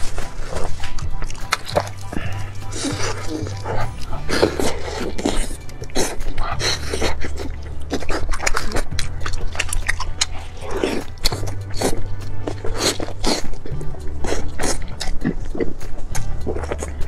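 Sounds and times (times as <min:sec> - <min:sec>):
background music with bass: 0:00.0 - 0:17.0
wet chewing and lip smacks: 0:00.0 - 0:17.0.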